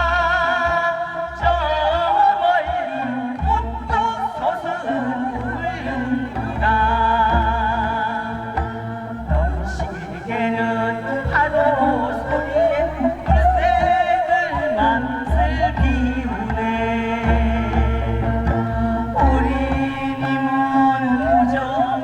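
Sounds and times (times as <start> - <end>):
backing accompaniment with low beat: 0.0 - 22.0
person singing folk song: 0.0 - 22.0.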